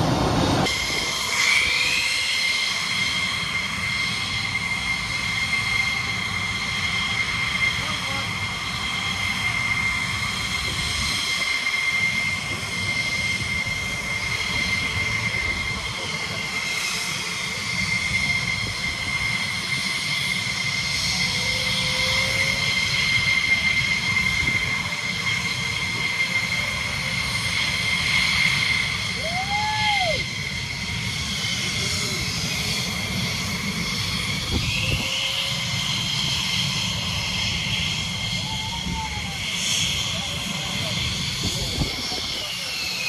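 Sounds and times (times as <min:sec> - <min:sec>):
jet engines running: 0:00.0 - 0:43.0.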